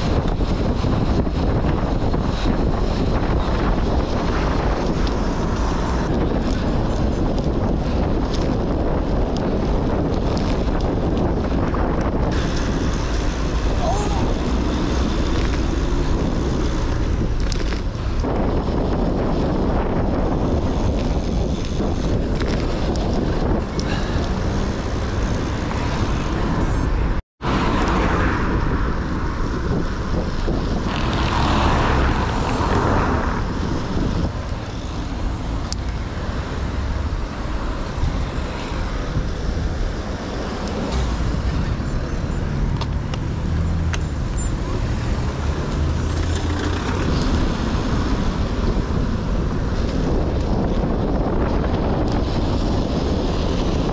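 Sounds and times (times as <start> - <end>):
cars and vans passing: 0.0 - 53.9
wind buffeting microphone: 0.0 - 53.9.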